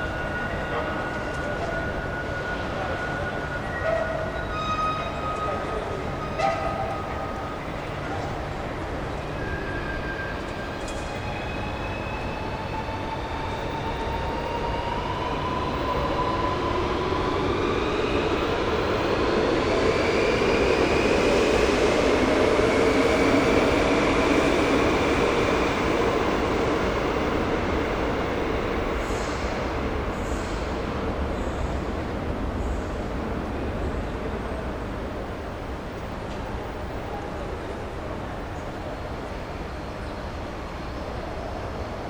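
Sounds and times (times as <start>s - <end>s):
train rail noise: 0.0s - 42.0s.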